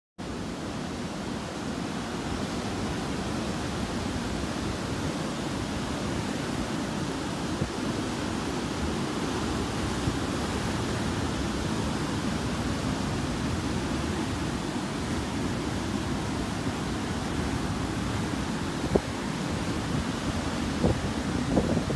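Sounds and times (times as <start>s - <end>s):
surf breaking on beach: 2.2s - 21.9s.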